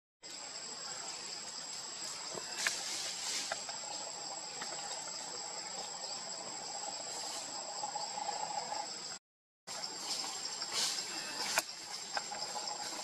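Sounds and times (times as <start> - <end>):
insect chorus shrill whine: 0.2 - 13.0.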